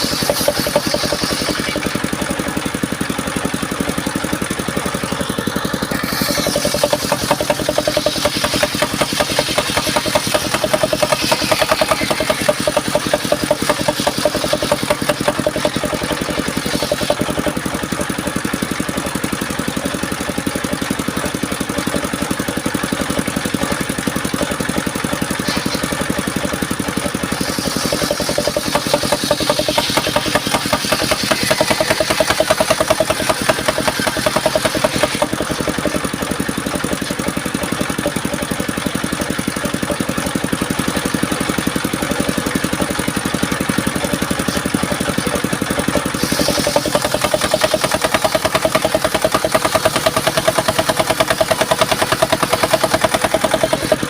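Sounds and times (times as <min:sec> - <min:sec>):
saw blade cutting wood: 0:00.0 - 0:54.0
sawmill engine running: 0:00.0 - 0:54.0.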